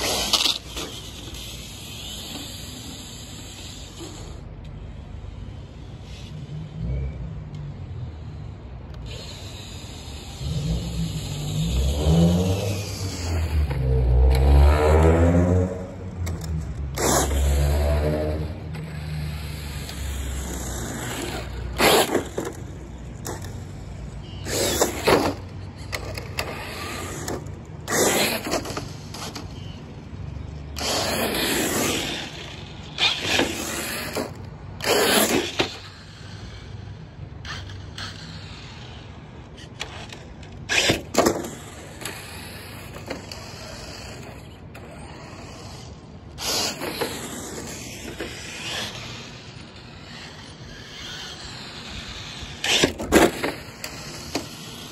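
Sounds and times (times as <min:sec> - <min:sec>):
rc truck motor whine: 0:00.0 - 0:54.9
tyre noise on pavement: 0:00.0 - 0:54.9.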